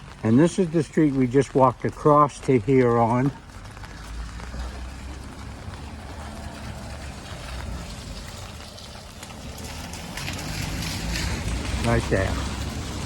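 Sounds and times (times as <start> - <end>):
rain hiss: 0.0 - 13.0
rumble of vehicles: 0.0 - 13.0
wet road noise: 0.0 - 13.0.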